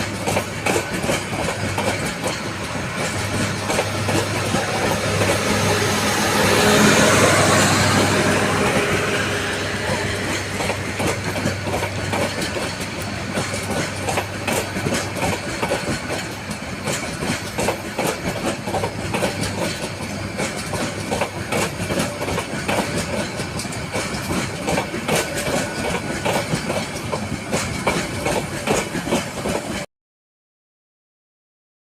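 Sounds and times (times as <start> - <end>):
train wheels clattering over joints: 0.0 - 8.9, 9.8 - 29.9
diesel locomotive engine hum: 0.0 - 29.9.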